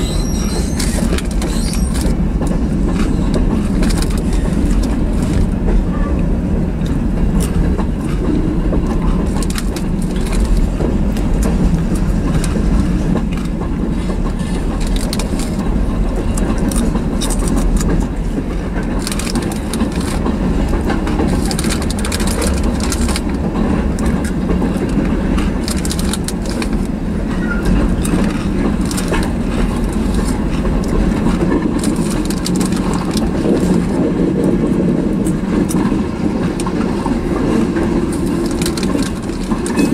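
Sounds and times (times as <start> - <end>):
wheel clicks and clatter: 0.0 - 5.6, 6.8 - 39.9
train wheels rumbling on rail: 0.0 - 39.9.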